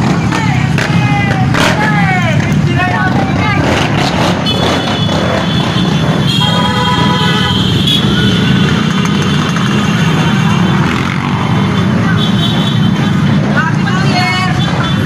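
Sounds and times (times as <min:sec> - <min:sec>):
motorcycle engines passing: 0:00.0 - 0:15.0
street noise: 0:00.0 - 0:15.0.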